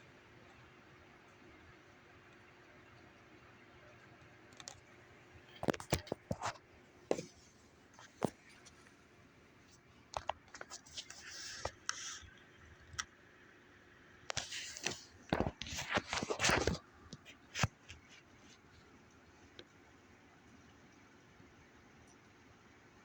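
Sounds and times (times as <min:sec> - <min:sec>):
low steady hiss: 0:00.0 - 0:23.0.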